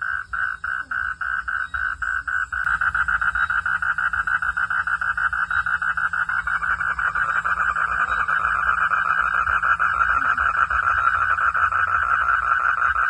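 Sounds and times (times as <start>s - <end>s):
faint insect hum: 0.0s - 13.0s
frogs calling: 0.0s - 13.0s.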